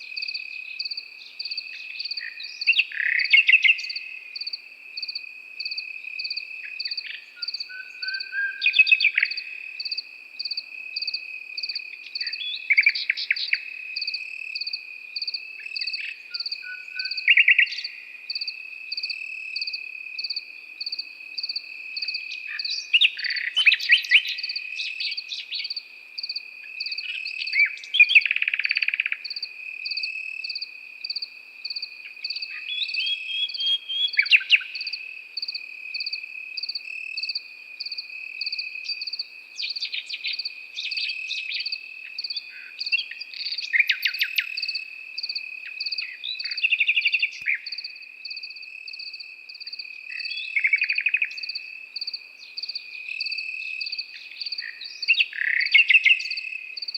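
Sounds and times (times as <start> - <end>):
cricket chirping in pulses: 0.0 - 56.9
cricket trilling steadily: 0.0 - 56.9
nightingale singing trills: 0.0 - 56.9.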